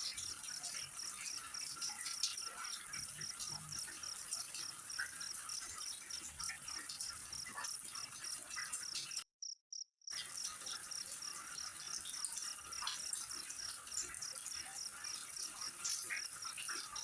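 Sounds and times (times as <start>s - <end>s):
crickets chirping: 0.1s - 17.0s.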